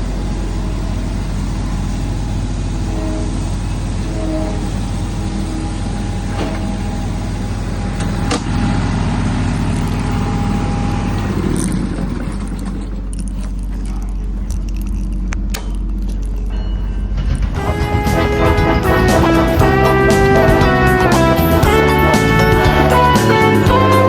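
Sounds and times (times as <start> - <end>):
model locomotive engine drone: 0.0 - 13.4, 16.0 - 24.0.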